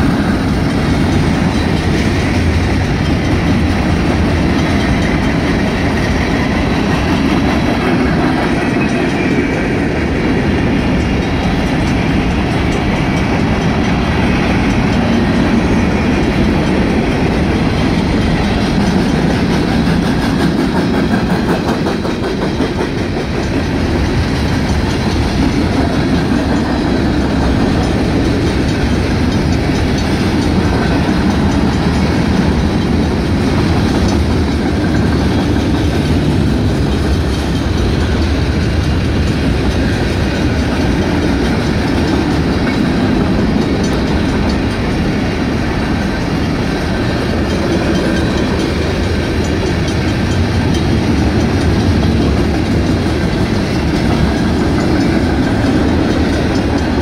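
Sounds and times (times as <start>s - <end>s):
crossing bells ringing: 0.0s - 57.0s
freight train wheels on rails: 0.0s - 57.0s.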